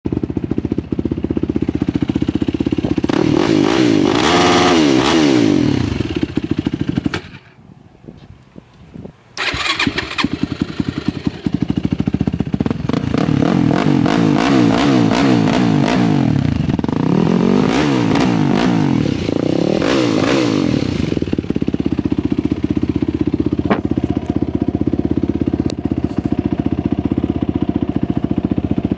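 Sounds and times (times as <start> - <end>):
quad engine idling and revving: 0.1 - 7.4, 9.4 - 28.9.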